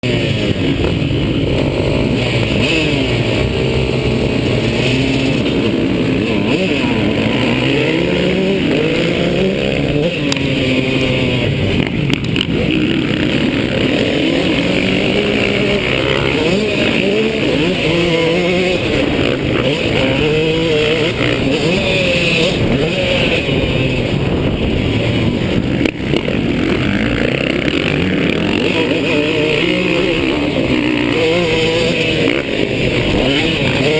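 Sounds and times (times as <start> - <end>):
motocross bike engine revving: 0.0 - 33.9.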